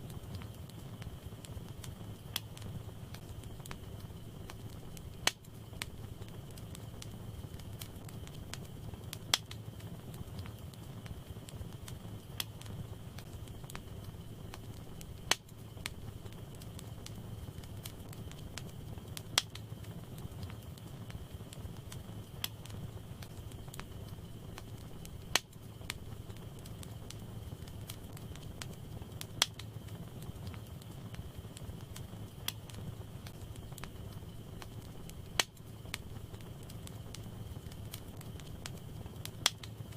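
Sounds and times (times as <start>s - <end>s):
sharp pops from fire: 0.0s - 39.9s
wood fire crackling: 0.0s - 39.9s.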